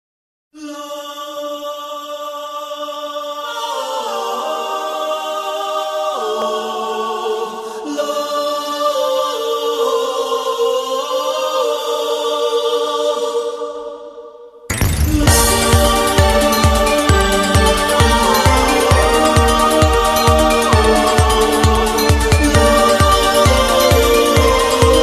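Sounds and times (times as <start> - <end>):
choir-like sustained chords: 0.6 - 25.0.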